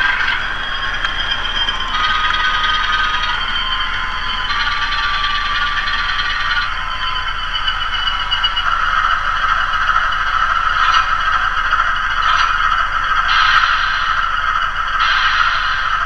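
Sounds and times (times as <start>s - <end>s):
diesel locomotive engine through small speaker: 0.0s - 16.0s.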